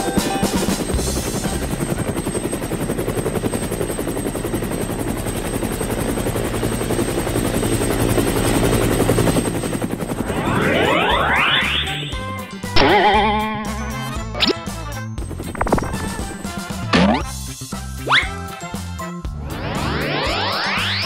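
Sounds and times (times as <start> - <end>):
helicopter rotor chopping: 0.0 - 17.4.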